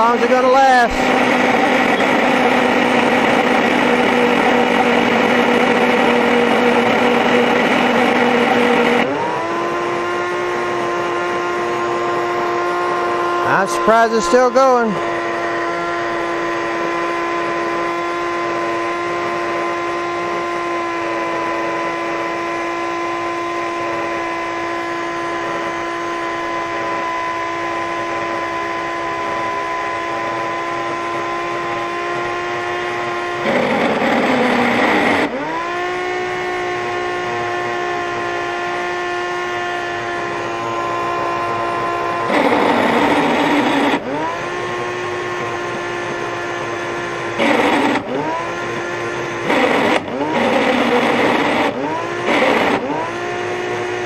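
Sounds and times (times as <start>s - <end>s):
vacuum motor whine: 0.0s - 54.0s.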